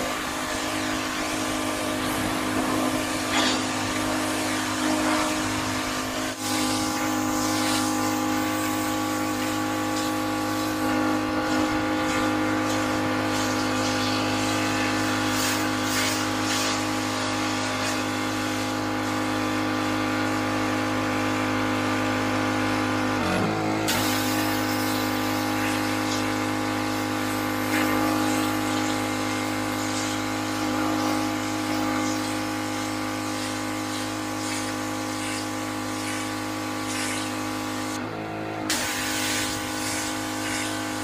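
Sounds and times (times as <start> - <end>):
water spray hissing: 0.0 - 19.2, 23.9 - 38.0, 38.7 - 41.0
pressure washer engine running: 0.0 - 41.0.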